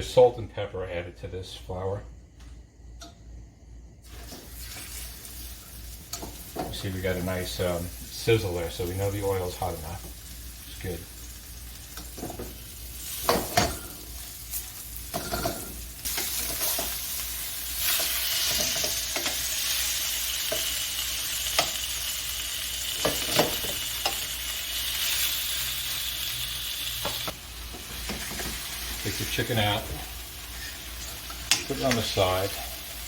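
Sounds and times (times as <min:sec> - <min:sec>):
chicken sizzling in oil: 0:04.0 - 0:33.0.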